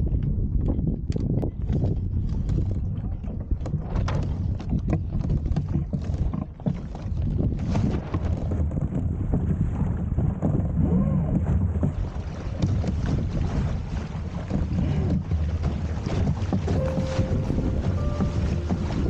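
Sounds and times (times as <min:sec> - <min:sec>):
wind buffeting microphone: 0:00.0 - 0:19.0
water rushing along hull: 0:02.3 - 0:19.0.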